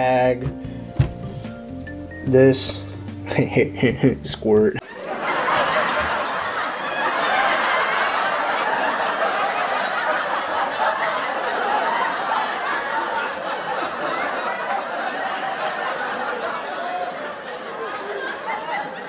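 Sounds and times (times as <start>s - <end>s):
laugh track: 2.3s - 19.0s.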